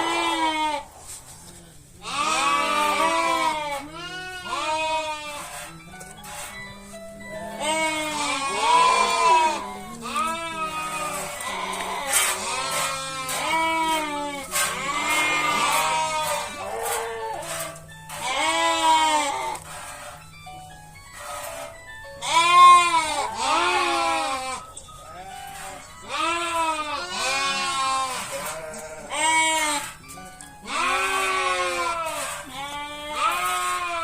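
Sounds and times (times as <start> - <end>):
sheep bleating: 0.0 - 0.9, 1.6 - 20.1, 21.2 - 30.0, 30.6 - 34.0.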